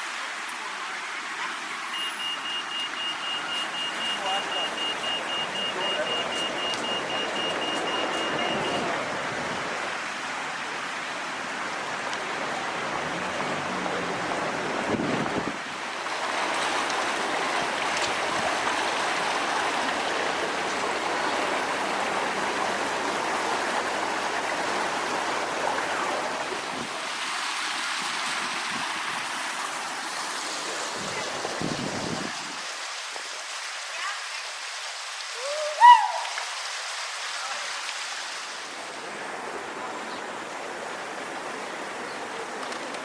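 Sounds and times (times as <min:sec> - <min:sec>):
river floodwater rushing: 0:00.0 - 0:43.0.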